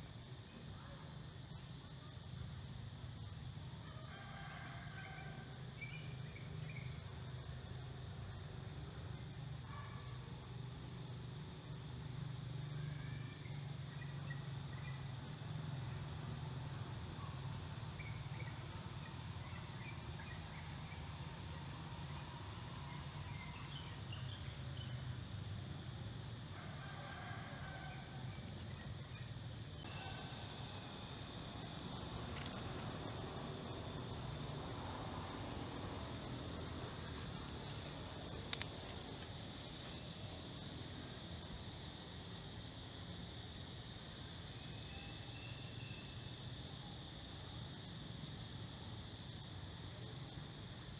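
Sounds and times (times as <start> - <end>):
insects buzzing steadily: 0.0 - 50.9.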